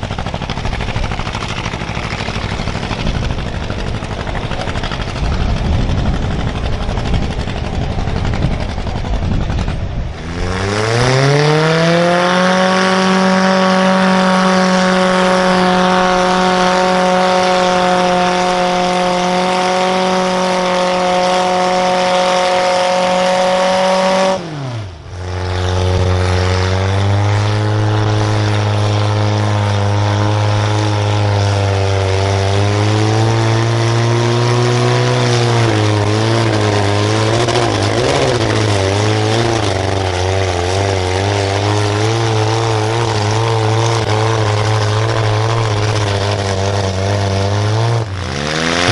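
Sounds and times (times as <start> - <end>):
engine revving under hard throttle: 0.0 - 48.9.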